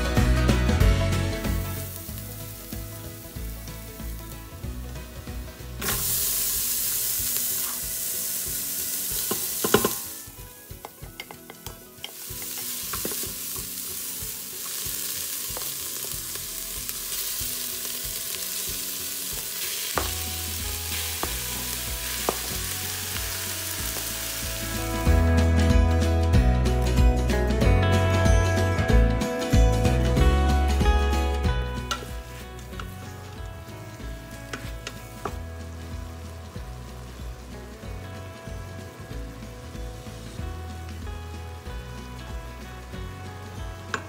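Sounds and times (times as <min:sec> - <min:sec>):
garlic and onion sizzling in oil: 0:00.0 - 0:25.7, 0:30.1 - 0:44.0.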